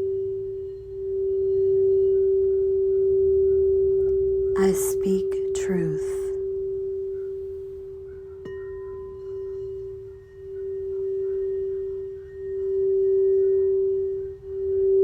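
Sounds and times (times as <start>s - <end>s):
singing bowl ringing: 0.0s - 4.4s, 6.3s - 15.0s.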